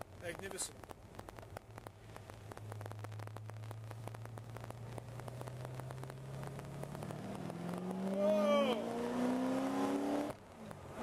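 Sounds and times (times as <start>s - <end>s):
car engine drone from cabin: 1.8s - 11.0s.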